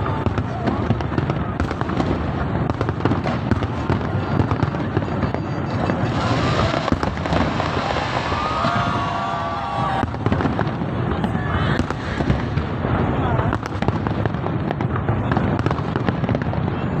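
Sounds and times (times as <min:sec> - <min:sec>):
fireworks bangs and pops: 0:00.0 - 0:17.0
fireworks crackling hiss: 0:00.0 - 0:17.0.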